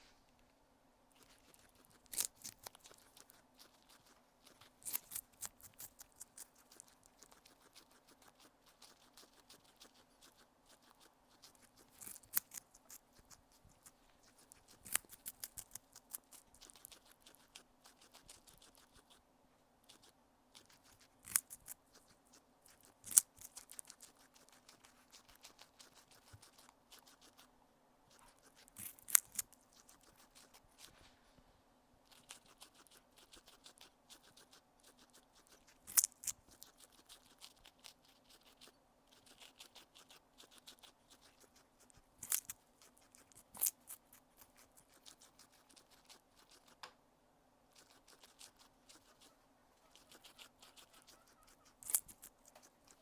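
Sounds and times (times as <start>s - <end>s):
faint steady hum: 0.0s - 53.0s
guinea pig crunching food: 1.0s - 31.1s, 32.0s - 46.9s, 47.6s - 53.0s.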